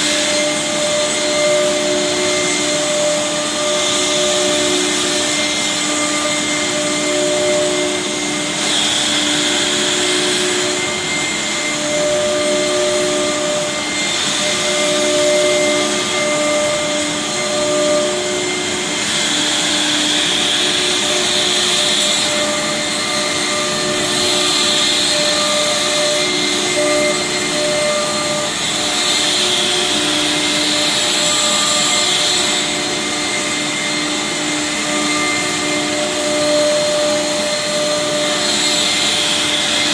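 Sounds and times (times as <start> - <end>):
hissing cutting and dust extraction: 0.0 - 39.9
router spindle whine: 0.0 - 39.9.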